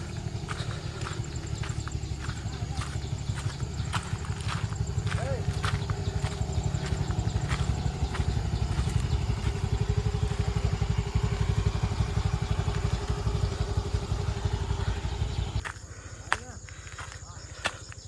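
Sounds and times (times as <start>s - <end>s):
motorcycle engine running: 0.0s - 17.7s.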